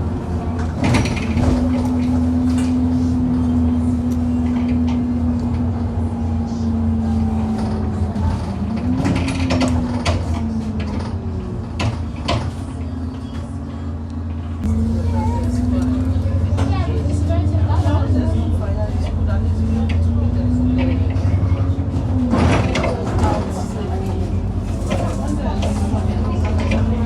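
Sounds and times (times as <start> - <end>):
bus engine whine and rumble: 0.0 - 27.0
bus knocking over potholes: 0.0 - 27.0.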